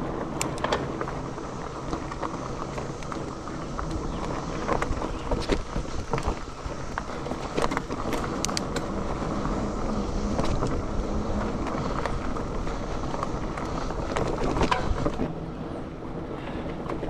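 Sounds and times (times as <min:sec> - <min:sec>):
bike clicks and rattles: 0:00.0 - 0:17.0
bike tyre and frame rumble: 0:00.0 - 0:17.0
wind noise on microphone: 0:00.0 - 0:17.0.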